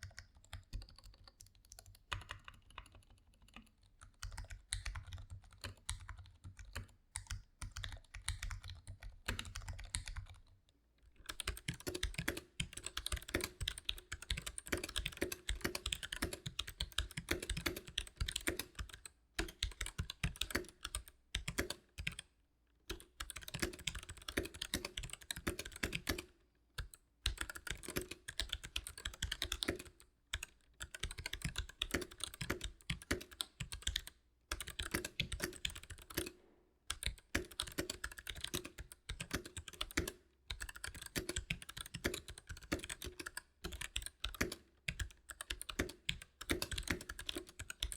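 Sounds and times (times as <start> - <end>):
typing on mechanical keyboard: 0.0 - 10.5, 11.2 - 22.2, 22.9 - 47.9.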